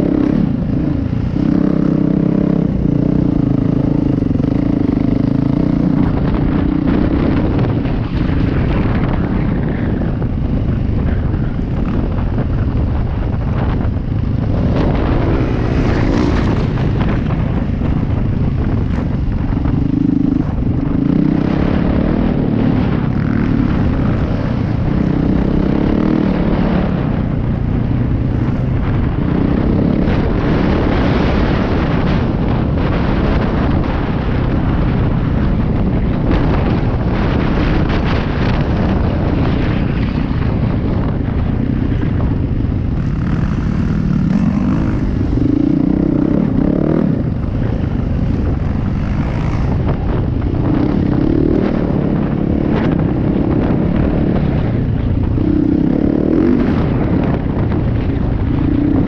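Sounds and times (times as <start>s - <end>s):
dirt bike engine revving: 0.0s - 27.4s, 28.1s - 59.0s.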